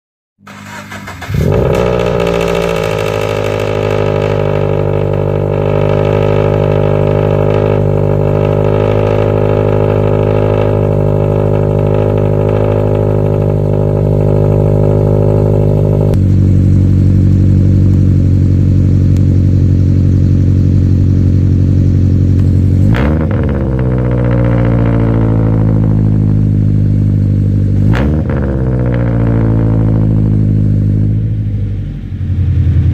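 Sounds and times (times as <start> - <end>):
car engine starting and idling: 0.4 - 32.9
engine revving: 0.4 - 32.9.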